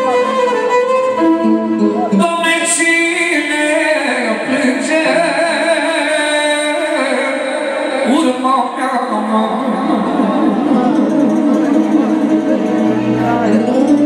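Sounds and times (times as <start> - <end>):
violin accompaniment: 0.0 - 14.0
man singing with vibrato: 2.0 - 14.0.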